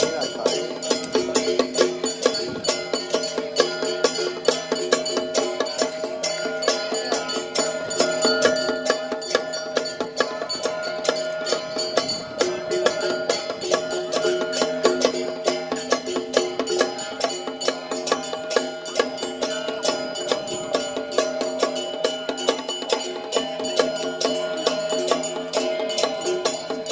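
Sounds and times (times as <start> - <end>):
rapid percussion strikes: 0.0 - 26.9.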